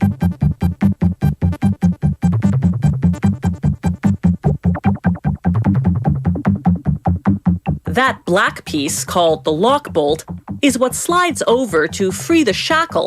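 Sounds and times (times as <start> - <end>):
fast electronic synthesizer music: 0.0 - 8.1, 8.7 - 13.0.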